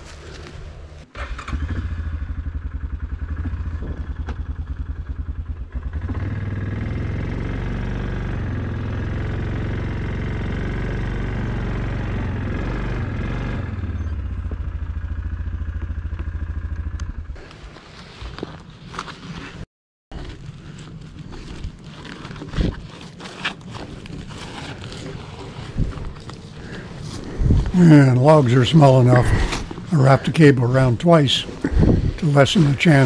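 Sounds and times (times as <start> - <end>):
atv engine running: 0.0 - 17.7, 20.2 - 33.0.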